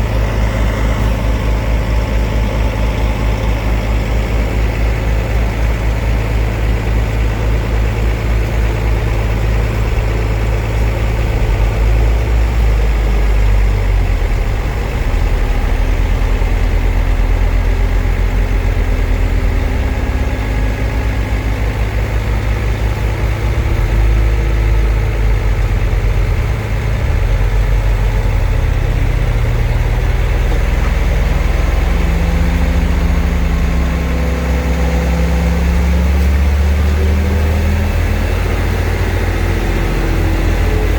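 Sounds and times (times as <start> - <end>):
heavy diesel engine rumbling: 0.0 - 40.9.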